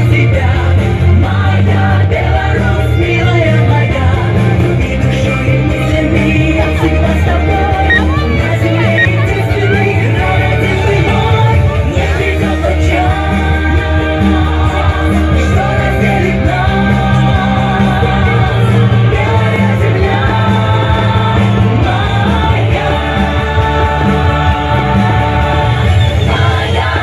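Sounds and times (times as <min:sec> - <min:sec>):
song with singing: 0:00.0 - 0:27.0.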